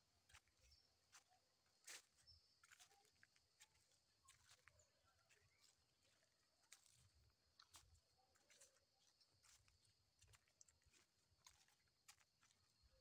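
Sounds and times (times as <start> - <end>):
footsteps on dry leaves: 0.2 - 12.8.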